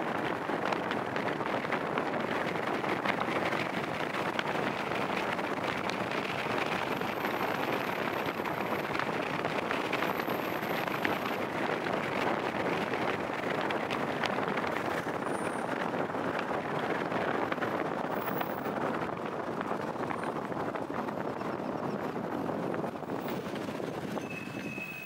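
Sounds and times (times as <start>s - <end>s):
vehicle road noise: 0.0s - 25.0s
wind on microphone: 0.0s - 25.0s.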